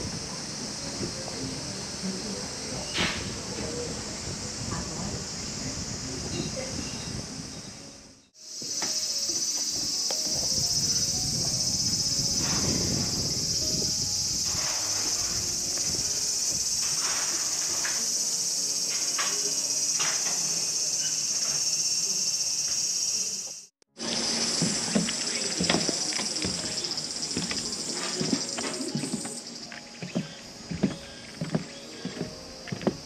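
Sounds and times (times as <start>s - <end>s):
cicadas singing: 0.0s - 33.0s.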